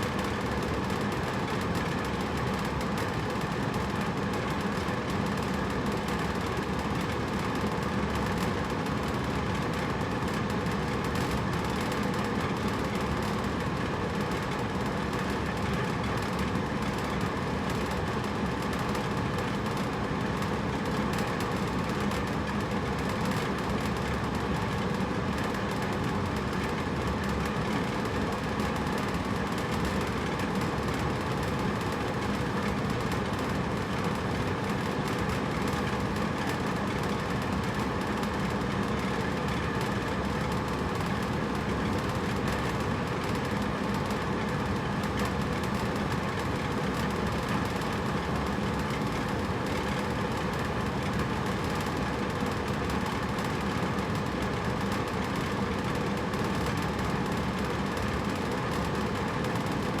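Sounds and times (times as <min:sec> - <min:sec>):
air conditioner humming: 0:00.0 - 1:00.0.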